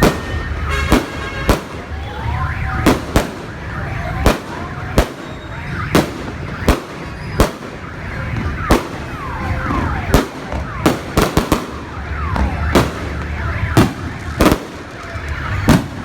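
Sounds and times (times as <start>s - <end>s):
fireworks bangs: 0.0s - 16.0s
whistling fireworks: 0.0s - 16.0s.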